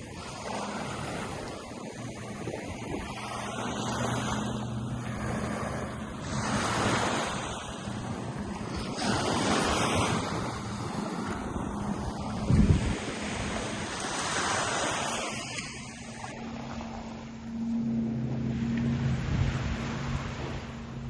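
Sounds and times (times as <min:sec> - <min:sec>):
surf washing onto beach: 0:00.0 - 0:17.5.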